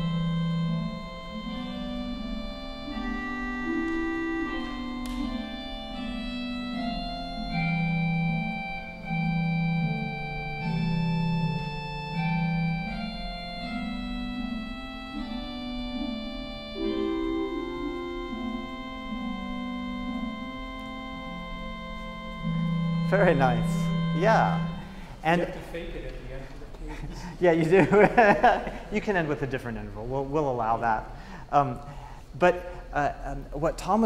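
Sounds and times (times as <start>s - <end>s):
church organ playing a hymn: 0.0s - 34.0s.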